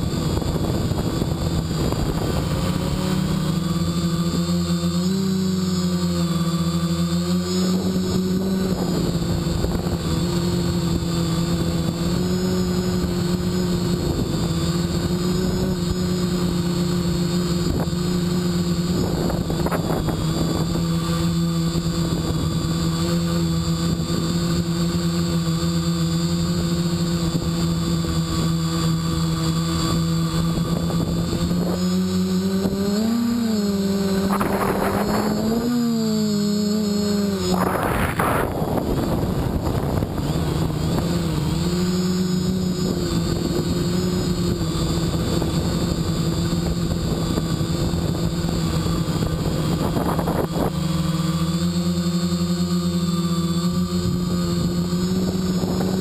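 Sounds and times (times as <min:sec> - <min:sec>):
wind rushing over microphone: 0:00.0 - 0:04.5, 0:07.6 - 0:25.0, 0:26.6 - 0:51.0, 0:53.8 - 0:56.0
quadcopter propellers humming: 0:00.0 - 0:56.0.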